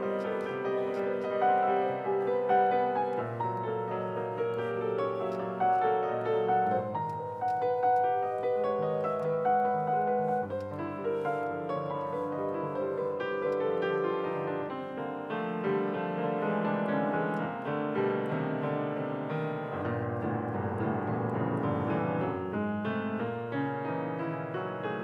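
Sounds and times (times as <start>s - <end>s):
grand piano fast flurry of notes: 0.0s - 25.0s.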